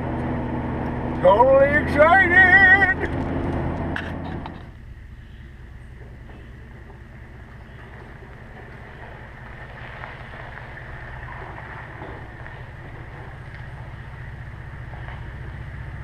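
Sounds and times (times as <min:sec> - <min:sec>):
truck engine low rumble: 0:00.0 - 0:16.0.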